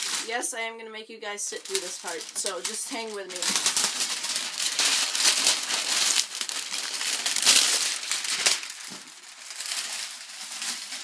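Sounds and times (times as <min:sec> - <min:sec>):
plastic wrap crinkling: 0:00.0 - 0:00.5, 0:01.4 - 0:11.0.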